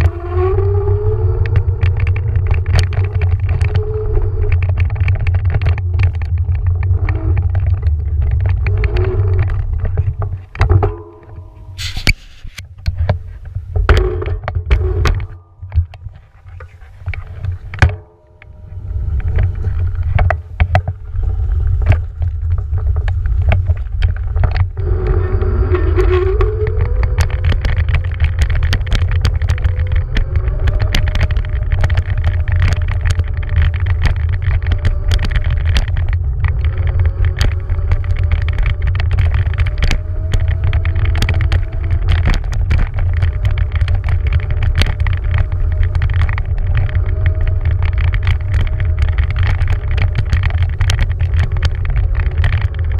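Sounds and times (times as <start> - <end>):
electric scooter motor whine: 0.0 - 11.7, 17.3 - 52.9
wind rumble on microphone: 0.0 - 52.9.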